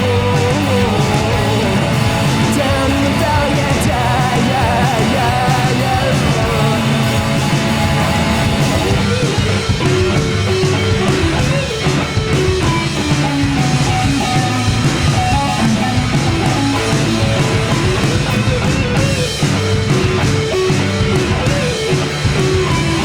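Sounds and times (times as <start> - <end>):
drums beat: 0.0 - 23.0
electric guitars: 0.0 - 23.0.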